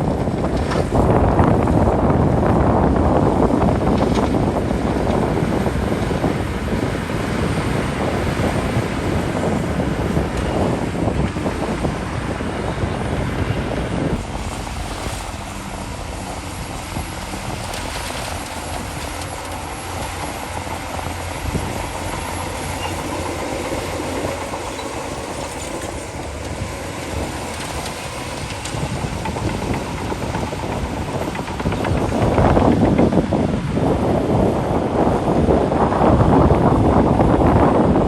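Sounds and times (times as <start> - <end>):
steel tracks clattering: 0.0 - 36.5
bulldozer diesel engine running: 0.0 - 38.0.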